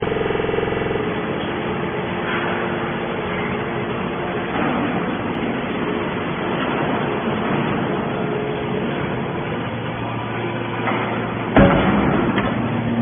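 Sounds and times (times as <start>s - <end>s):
baler machine running: 0.0s - 13.0s
pitched hum: 0.0s - 13.0s.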